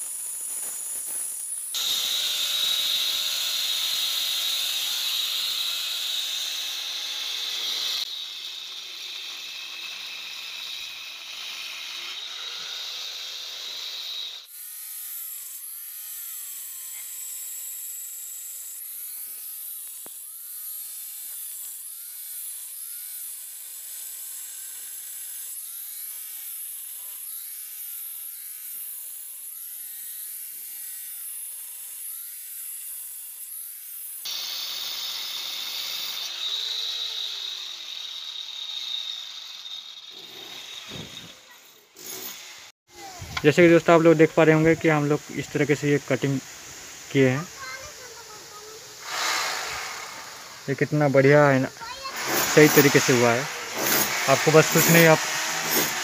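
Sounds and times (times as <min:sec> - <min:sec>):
angle grinder cutting brick: 0:00.0 - 0:56.0.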